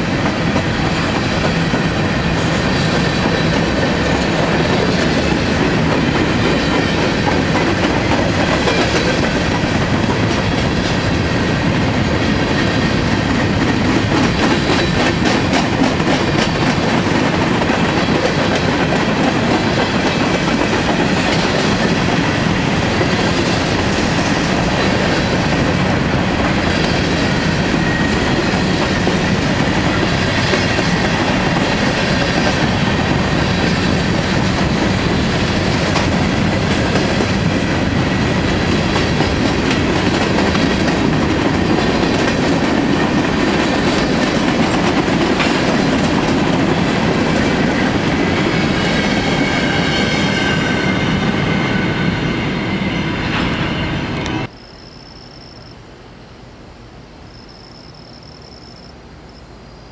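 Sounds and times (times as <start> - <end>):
freight cars rolling on rails: 0.0 - 54.5.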